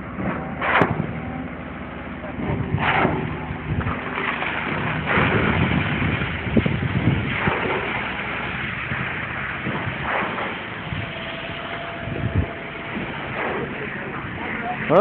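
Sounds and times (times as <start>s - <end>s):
concrete pump surges: 0.0s - 15.0s
diesel engine under load: 0.0s - 15.0s.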